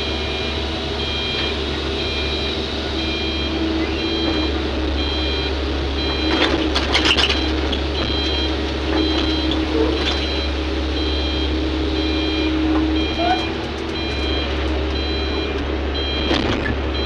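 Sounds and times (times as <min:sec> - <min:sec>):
backup alarm beeping: 0:00.0 - 0:17.0
diesel engine running: 0:00.0 - 0:17.0.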